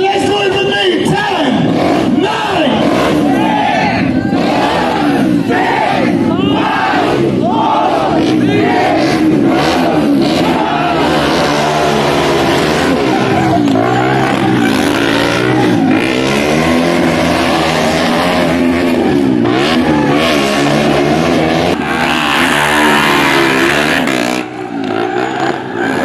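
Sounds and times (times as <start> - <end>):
motorcycles revving: 0.0 - 26.0.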